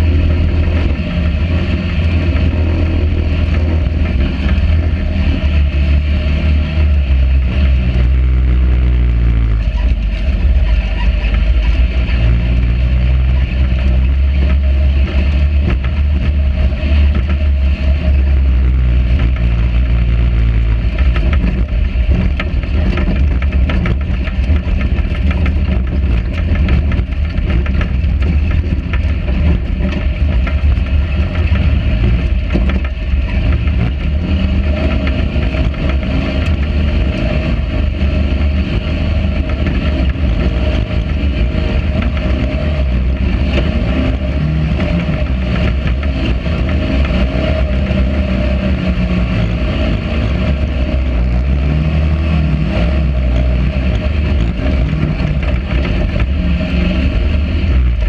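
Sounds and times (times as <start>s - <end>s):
buggy engine revving: 0.0s - 58.0s
chassis rattling and knocking: 0.0s - 58.0s.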